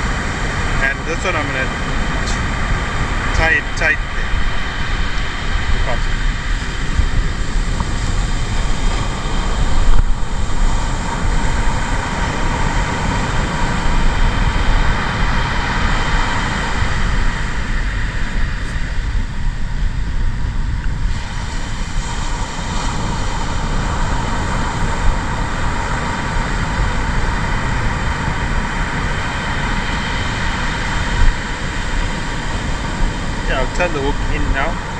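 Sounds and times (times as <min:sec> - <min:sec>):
surf breaking on beach: 0:00.0 - 0:34.9
wind buffeting microphone: 0:00.0 - 0:34.9.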